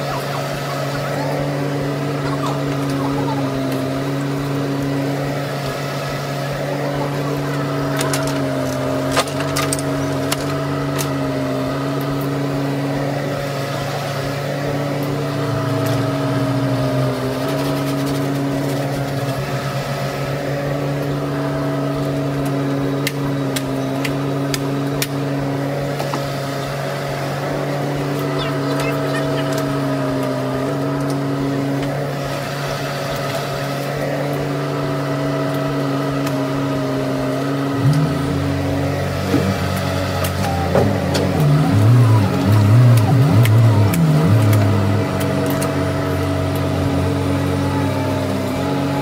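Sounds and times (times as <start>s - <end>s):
mini excavator diesel engine: 0.0s - 49.0s.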